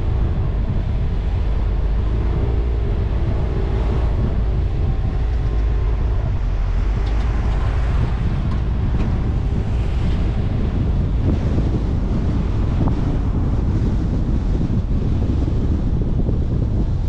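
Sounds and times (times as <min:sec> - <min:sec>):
car driving on road: 0:00.0 - 0:17.0
wind on microphone: 0:00.0 - 0:17.0.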